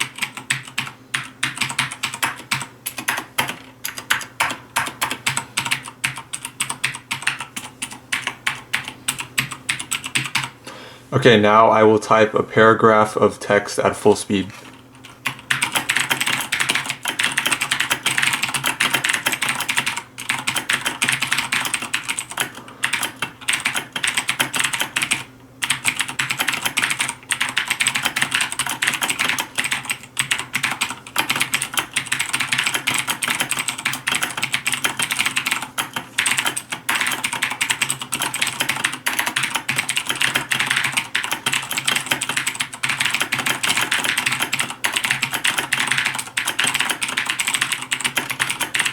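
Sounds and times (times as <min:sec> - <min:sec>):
fast typing on mechanical keyboard: 0:00.0 - 0:10.6, 0:14.7 - 0:48.9.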